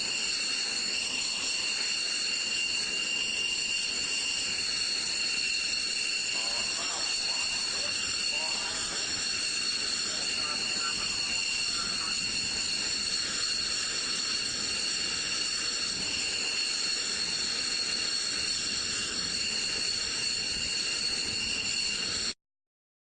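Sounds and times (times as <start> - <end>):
jet engine whine: 0.0 - 22.4.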